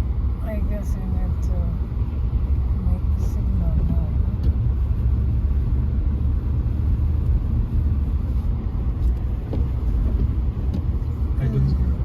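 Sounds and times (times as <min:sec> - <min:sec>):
car driving on icy road: 0:00.0 - 0:12.0.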